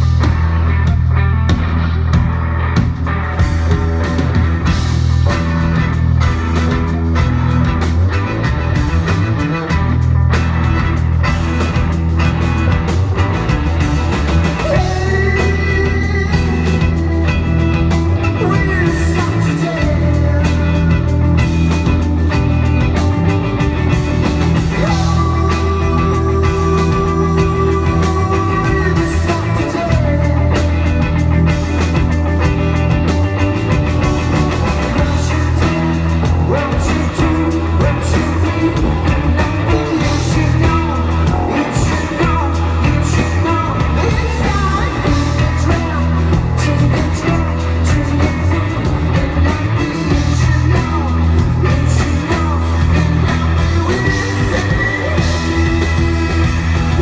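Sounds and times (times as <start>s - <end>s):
heavy steady bass: 0.0s - 57.0s
rock band playing: 0.0s - 57.0s.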